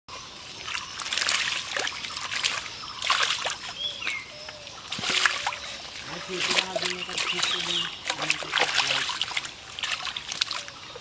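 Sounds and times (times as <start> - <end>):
hands splashing in muddy water: 0.6 - 10.8.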